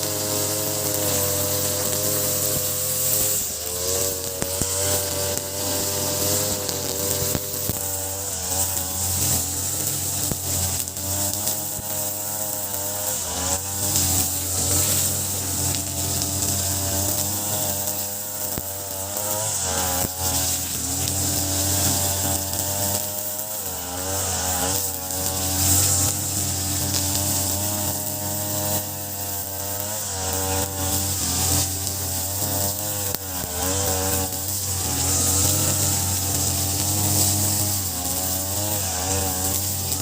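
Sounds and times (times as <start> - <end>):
brush cutter engine at high throttle: 0.0 - 40.0.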